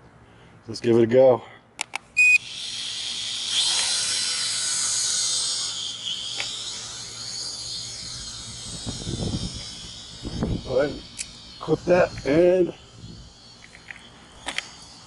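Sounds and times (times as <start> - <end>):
drone propellers whining: 2.2 - 15.0.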